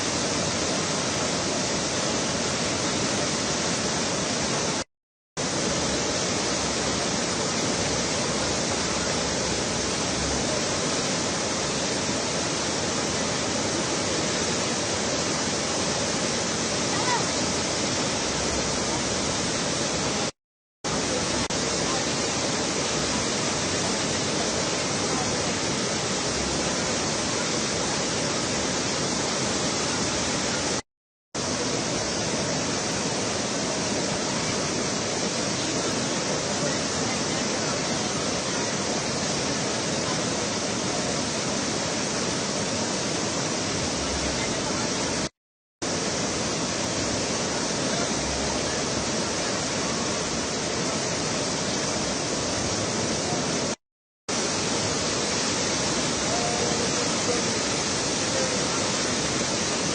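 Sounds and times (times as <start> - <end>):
river water roaring: 0.0 - 4.8, 5.4 - 20.3, 20.9 - 30.8, 31.4 - 59.9.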